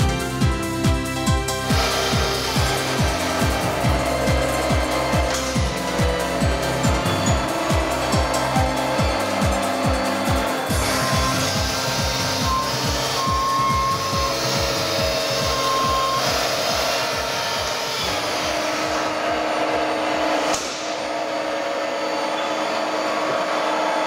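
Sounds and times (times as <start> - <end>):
drilling machine whirring: 0.0 - 24.0.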